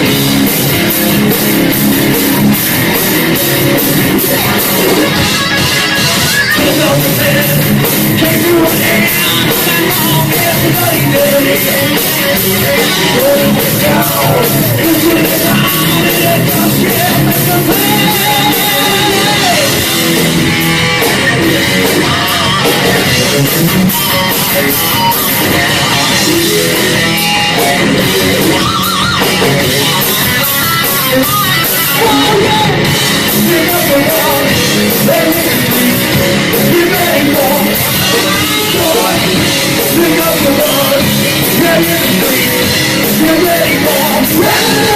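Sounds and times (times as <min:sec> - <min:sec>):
bass guitar: 0:00.0 - 0:44.9
distorted electric guitar: 0:00.0 - 0:44.9
fast drums: 0:00.0 - 0:44.9.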